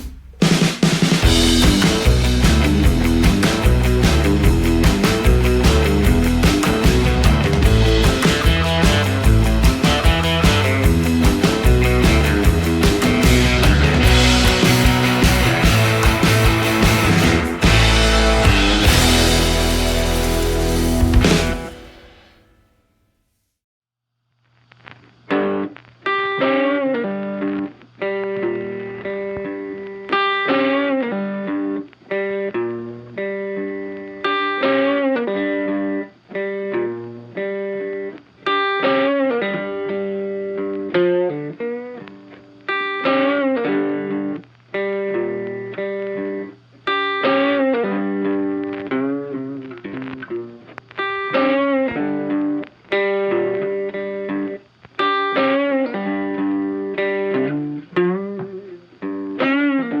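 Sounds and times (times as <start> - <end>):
funky electric guitar riff: 0.0 - 22.4, 24.8 - 60.0.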